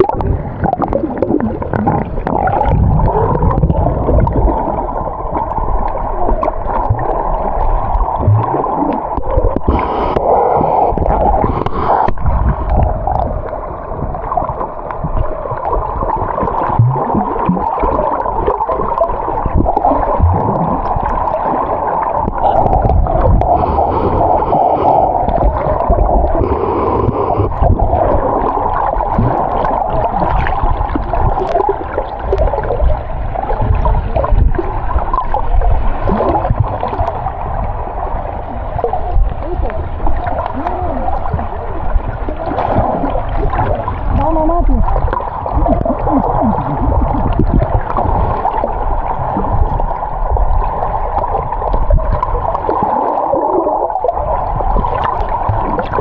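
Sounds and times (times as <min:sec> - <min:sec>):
low rumble: 0:00.0 - 0:56.0
sea water rushing and gurgling: 0:00.0 - 0:56.0.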